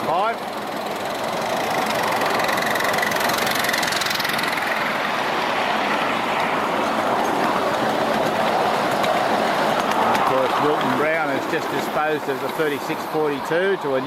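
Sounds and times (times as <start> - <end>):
miniature train rumbling and rattling: 0.0 - 14.0.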